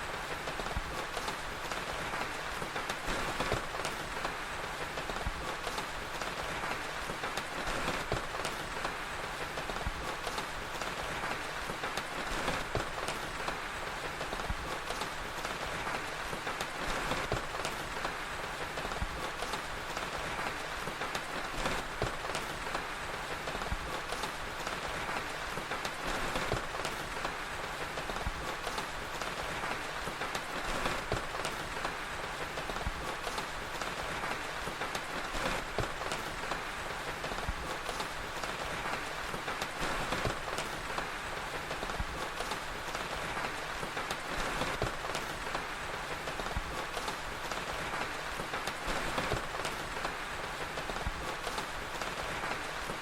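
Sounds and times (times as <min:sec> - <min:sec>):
steady rain: 0:00.0 - 0:53.0
wood fire crackling: 0:00.0 - 0:53.0.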